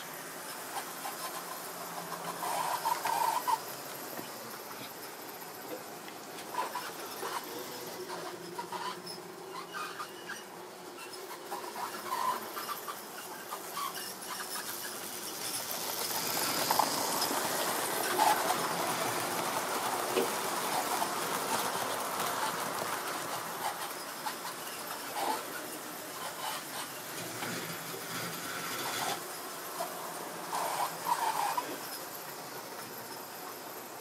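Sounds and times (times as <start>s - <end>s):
model train motor whirring: 0.0s - 34.0s
wheels clicking on rails: 0.0s - 34.0s.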